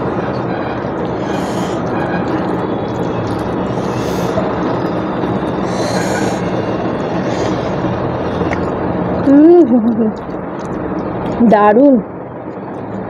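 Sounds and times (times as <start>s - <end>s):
steady rumbling: 0.0s - 13.0s.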